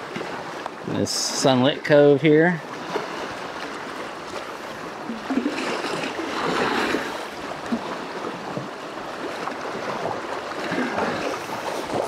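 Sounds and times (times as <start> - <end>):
waves lapping on rocky shore: 0.0 - 12.0.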